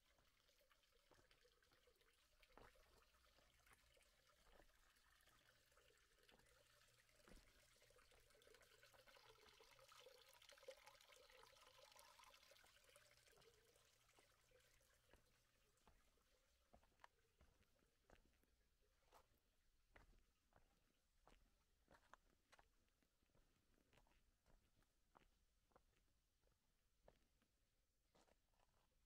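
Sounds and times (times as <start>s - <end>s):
faint trickle of water: 0.0s - 29.0s.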